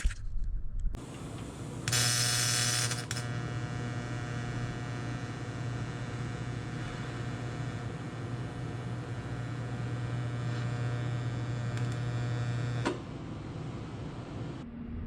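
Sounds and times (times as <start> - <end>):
electric welder humming: 1.0 - 14.6
welding arc hissing and crackling: 1.0 - 14.6.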